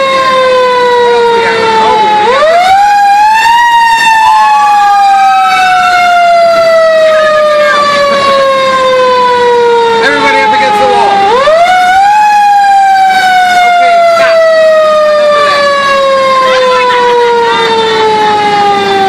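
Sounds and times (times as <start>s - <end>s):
fire engine siren: 0.0s - 19.0s.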